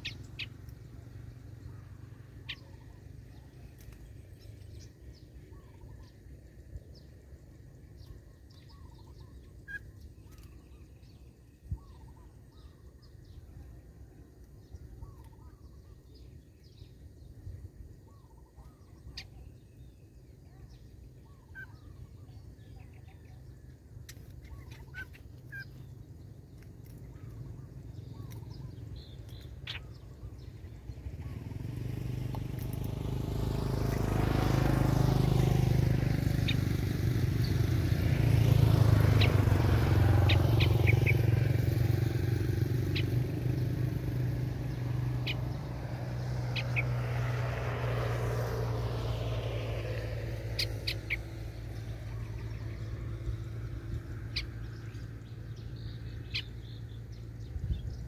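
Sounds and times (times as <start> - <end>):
motor engine passing by: 0.0 - 58.0.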